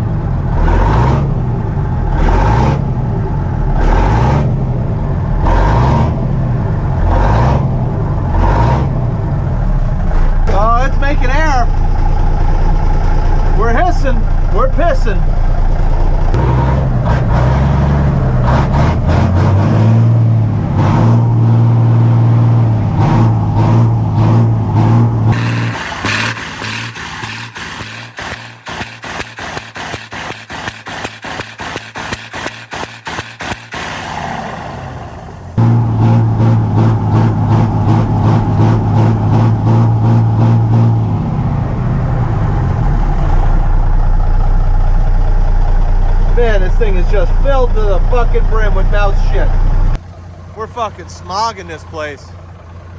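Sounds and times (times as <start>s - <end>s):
diesel truck engine running: 0.0s - 52.9s.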